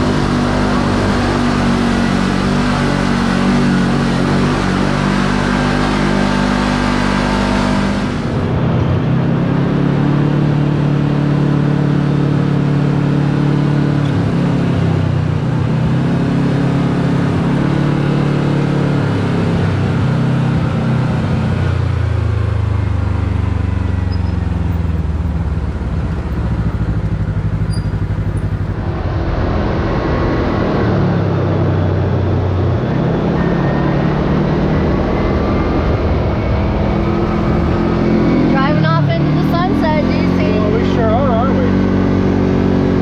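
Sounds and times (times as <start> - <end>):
off-road vehicle engine running: 0.0 - 43.0.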